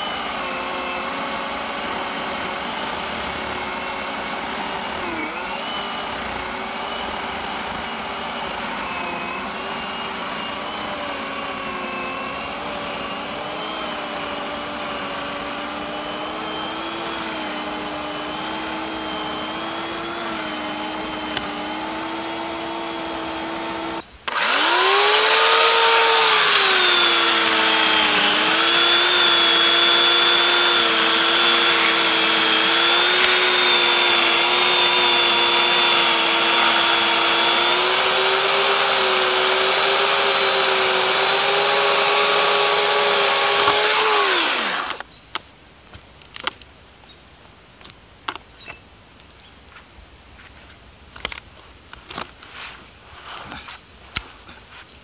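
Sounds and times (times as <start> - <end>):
electric chainsaw motor whine: 0.0 - 45.1.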